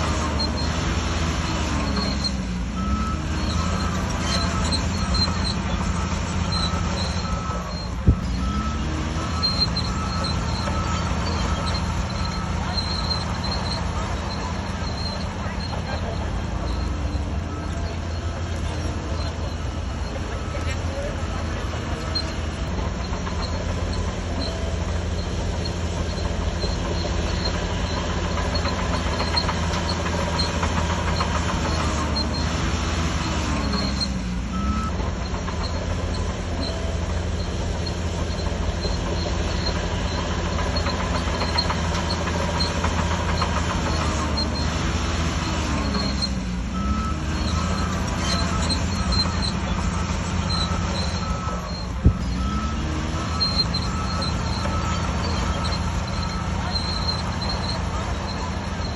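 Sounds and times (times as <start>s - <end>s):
bulldozer diesel engine: 0.0s - 58.9s
faint repeating beep: 1.8s - 32.6s, 33.6s - 44.7s, 45.7s - 58.9s
steel tracks clattering: 9.0s - 58.9s.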